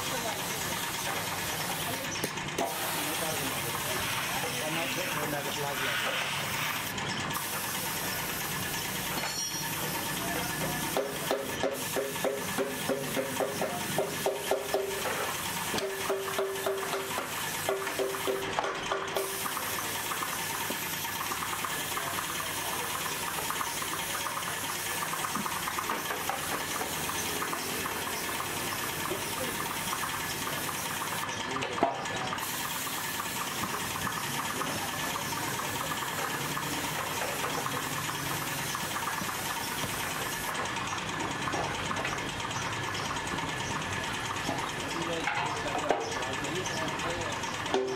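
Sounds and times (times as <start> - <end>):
paint spray gun hissing: 0.0 - 41.0.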